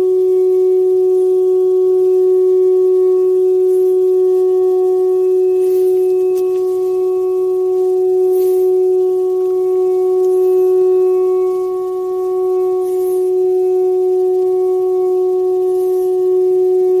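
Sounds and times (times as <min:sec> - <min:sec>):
steady drone: 0:00.0 - 0:17.0.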